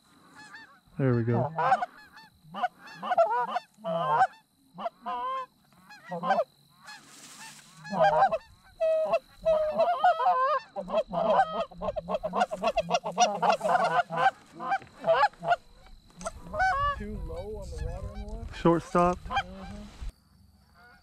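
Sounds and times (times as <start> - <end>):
goose honks and clucks: 0.3 - 20.1.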